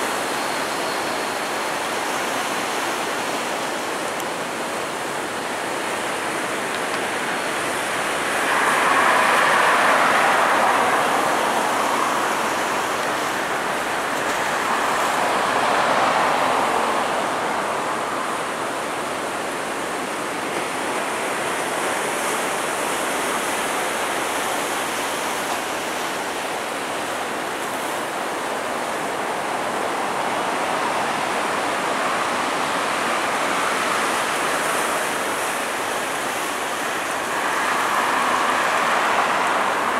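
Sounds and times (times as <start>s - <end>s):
distant jet engines rushing: 0.0s - 39.9s.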